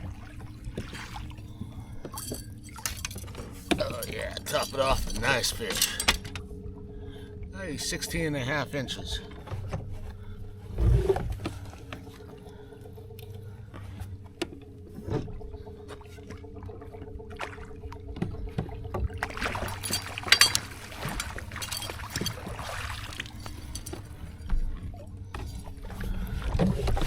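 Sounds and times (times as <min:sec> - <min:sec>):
low hum: 0:00.0 - 0:27.0
water splashing and trickling: 0:00.0 - 0:27.0.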